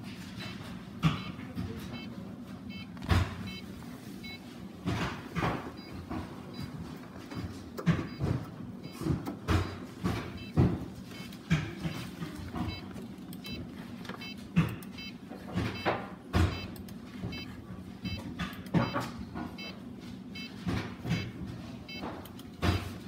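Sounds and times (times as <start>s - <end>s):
computer low hum: 0.0s - 23.0s.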